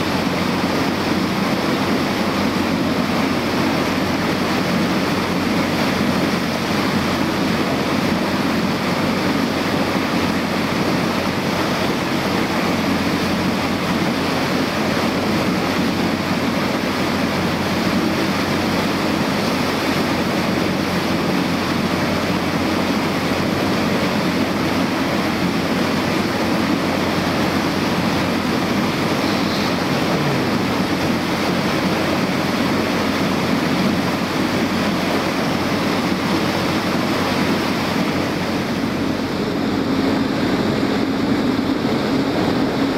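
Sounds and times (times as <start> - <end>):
motorboat engine drone: 0.0 - 42.9
water rushing along hull: 0.0 - 42.9.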